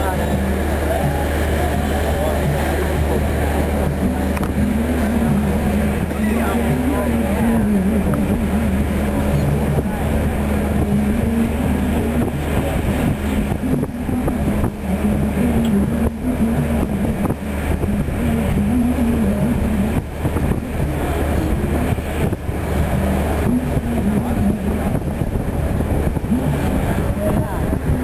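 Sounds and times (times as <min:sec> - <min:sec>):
higher wavering hum: 0:00.0 - 0:28.0
ship engines droning: 0:00.0 - 0:28.0.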